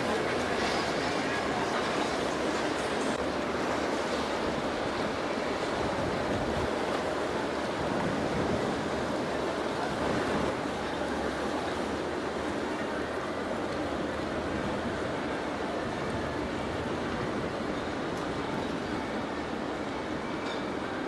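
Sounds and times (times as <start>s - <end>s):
water rushing: 0.0s - 21.0s
wind: 0.0s - 21.0s.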